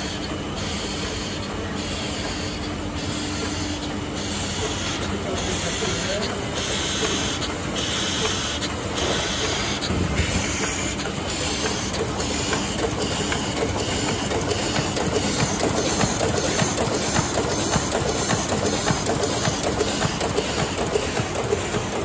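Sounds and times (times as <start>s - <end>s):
printing press clattering: 3.3s - 22.0s.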